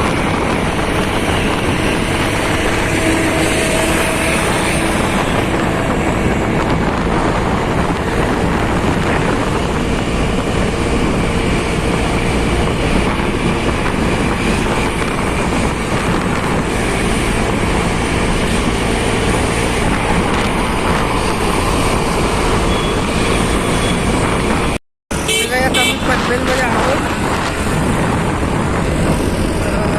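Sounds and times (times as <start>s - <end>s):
motorcycle engine and road noise: 0.0s - 29.9s
wind rushing over microphone: 0.0s - 29.9s.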